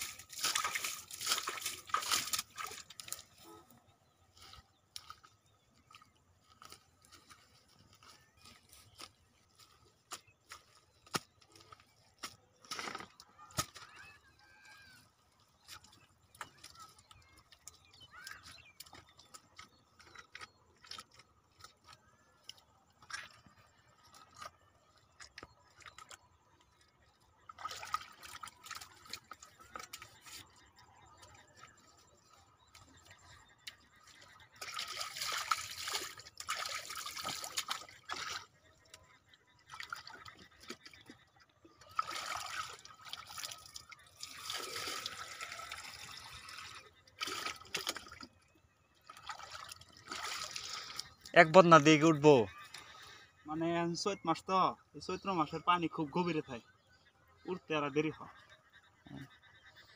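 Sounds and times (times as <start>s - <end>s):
rustling and splashing: 0.0s - 53.2s
small knocks and wet scraping: 0.0s - 53.4s.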